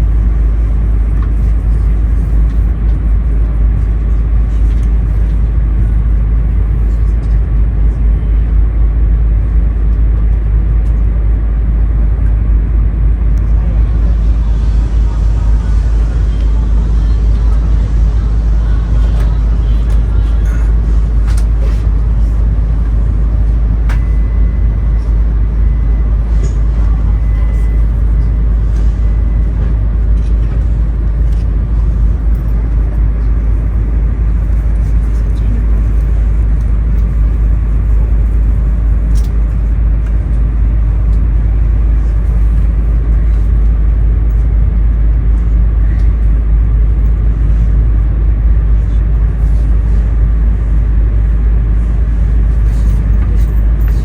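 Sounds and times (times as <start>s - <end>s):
low rumble of trains at platform: 0.0s - 54.0s.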